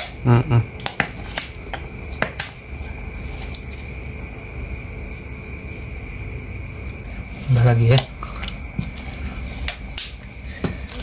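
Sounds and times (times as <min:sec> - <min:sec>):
broth simmering hiss: 0:00.0 - 0:11.0.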